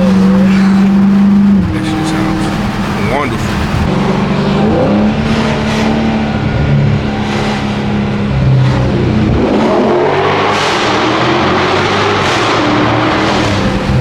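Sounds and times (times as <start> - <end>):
deep car exhaust drone: 0.0 - 14.0.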